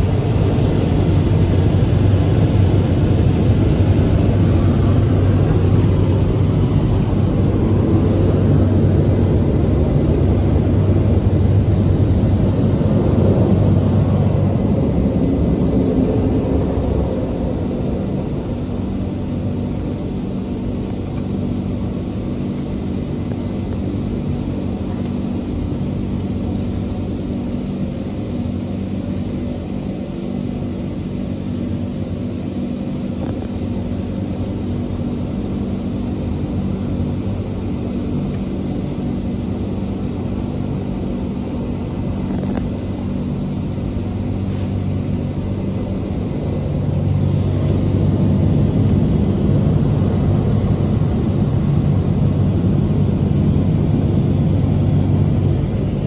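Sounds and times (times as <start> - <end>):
car wash hum and rumble: 0.0 - 56.0.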